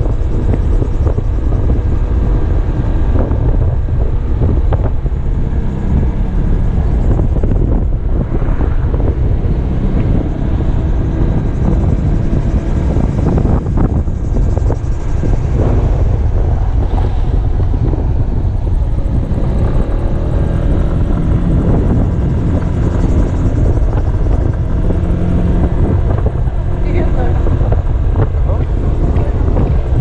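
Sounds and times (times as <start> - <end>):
scooter engine running: 0.0 - 30.0
wind noise on microphone: 0.0 - 30.0.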